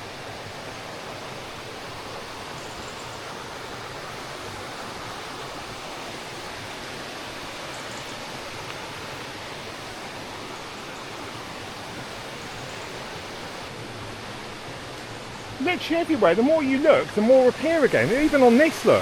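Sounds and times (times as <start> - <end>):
river running: 0.0 - 19.0.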